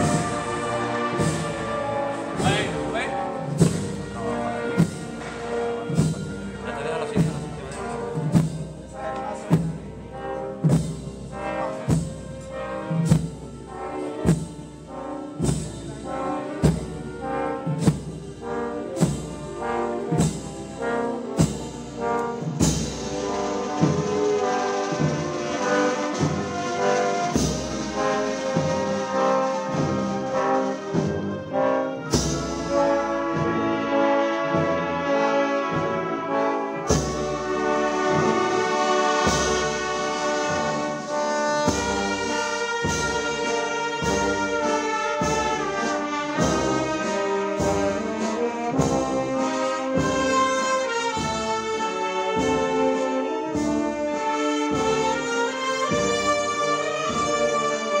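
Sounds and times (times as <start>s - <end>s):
steady drum beats: 0.0s - 33.9s, 35.7s - 58.0s
processional brass band march: 0.0s - 58.0s.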